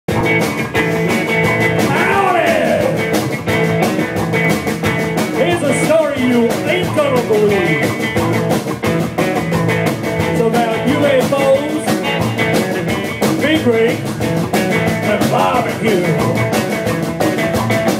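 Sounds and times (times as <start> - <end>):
drum kit: 0.1 - 17.9
electric guitar bent notes: 0.1 - 17.9
rockabilly band playing: 0.1 - 17.9
upright double bass: 0.1 - 17.9.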